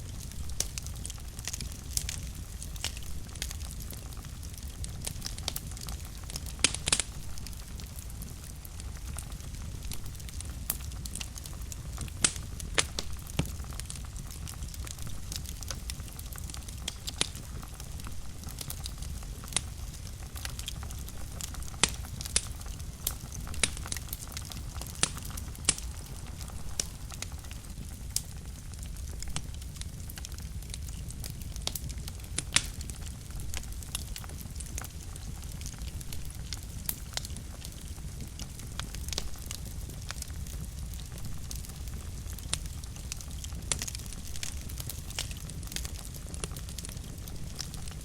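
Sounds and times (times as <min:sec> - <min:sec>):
low rumble of flames: 0:00.0 - 0:48.0
wood fire crackles and pops: 0:00.0 - 0:48.0.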